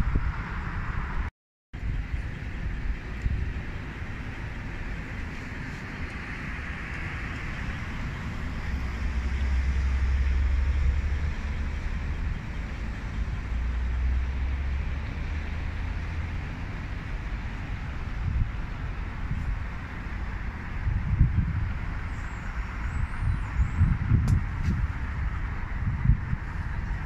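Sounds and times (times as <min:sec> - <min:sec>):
cars passing on wet road: 0:00.0 - 0:27.0
low engine rumble: 0:00.0 - 0:27.0.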